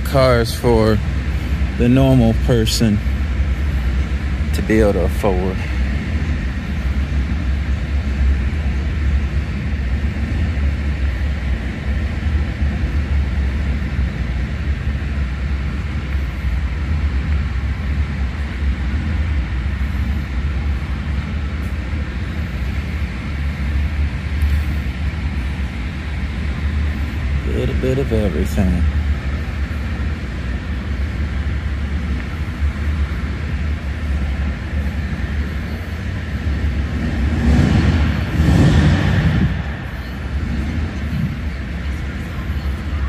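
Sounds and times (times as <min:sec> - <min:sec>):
low rumbling room hum: 0:00.0 - 0:43.0.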